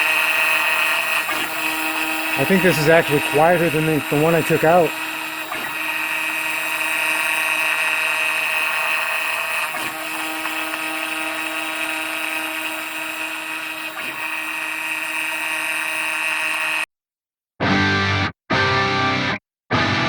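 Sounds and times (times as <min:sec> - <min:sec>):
router high-pitched whine: 0:00.0 - 0:16.9.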